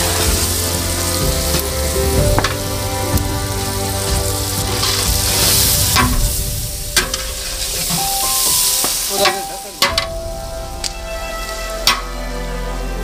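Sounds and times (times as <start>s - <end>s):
vegetables sizzling in oil: 0.0s - 12.1s.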